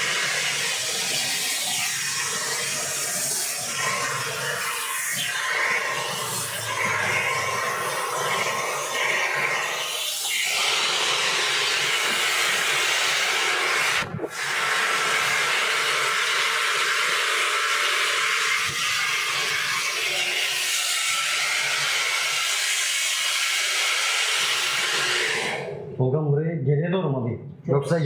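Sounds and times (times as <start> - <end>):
hair dryer blowing: 0.0 - 25.9.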